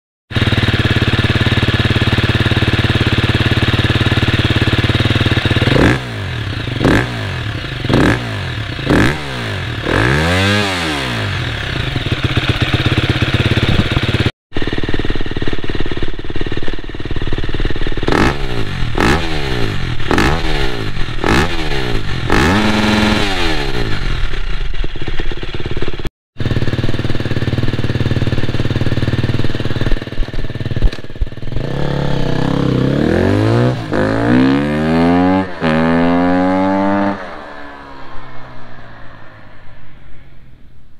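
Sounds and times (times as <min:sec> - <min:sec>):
dirt bike engine revving: 0:00.3 - 0:40.4.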